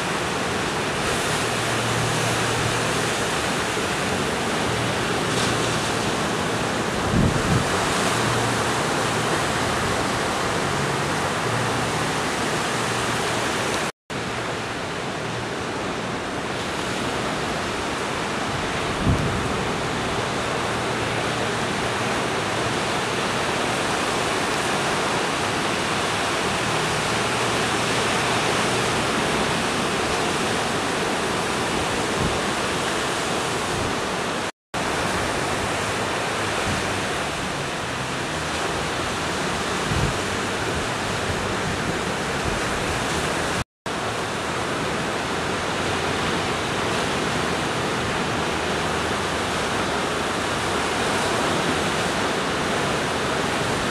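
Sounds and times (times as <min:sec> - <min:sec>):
ocean surf breaking: 0:00.0 - 0:53.9.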